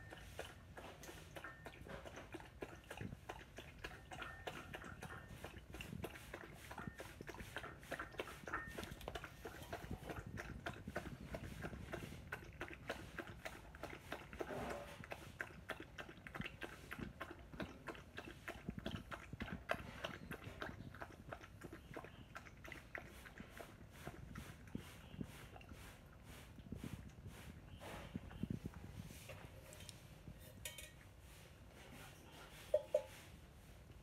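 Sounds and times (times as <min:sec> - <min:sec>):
dog lapping milk: 0:00.0 - 0:29.3.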